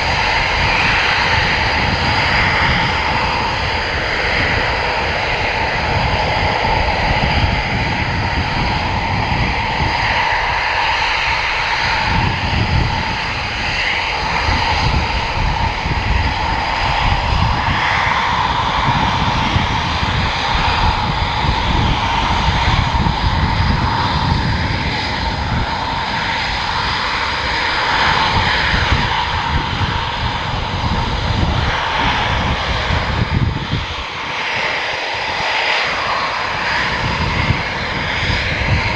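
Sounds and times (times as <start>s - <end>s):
jet engine rumble and whine: 0.0s - 38.9s.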